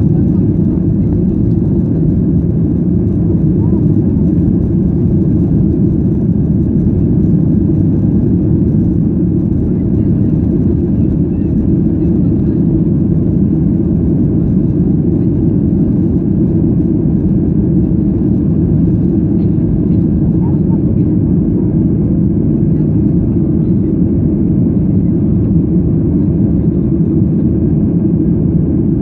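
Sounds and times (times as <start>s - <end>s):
jet engines droning: 0.0s - 29.0s.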